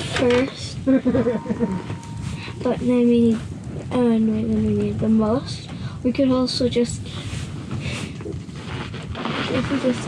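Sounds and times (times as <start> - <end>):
wind buffeting a shelter: 0.0 - 10.0
wind noise on microphone: 0.0 - 10.0.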